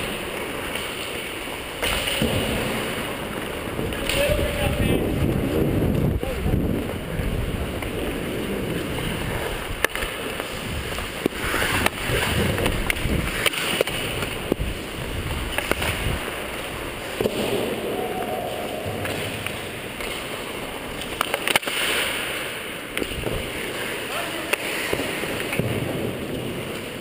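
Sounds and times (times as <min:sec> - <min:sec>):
hockey sticks and puck clacking: 0:00.0 - 0:27.0
skate blades scraping ice: 0:00.0 - 0:27.0.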